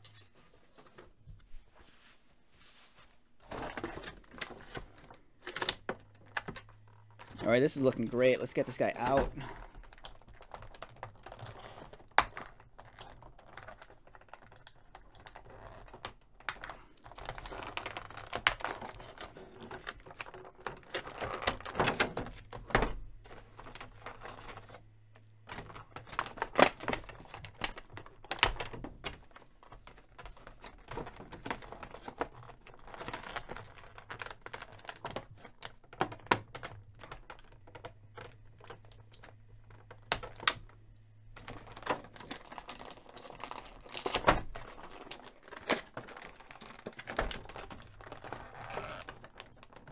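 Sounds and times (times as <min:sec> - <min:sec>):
plastic packaging crinkling: 0:03.4 - 0:22.6, 0:23.2 - 0:49.9.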